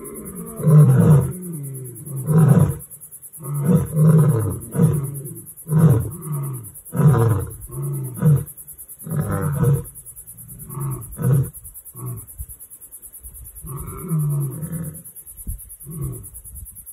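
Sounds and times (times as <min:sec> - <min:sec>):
lion grunts: 0:00.0 - 0:12.3, 0:13.6 - 0:15.1, 0:15.8 - 0:16.4
lion roaring: 0:00.0 - 0:12.3, 0:13.7 - 0:15.1.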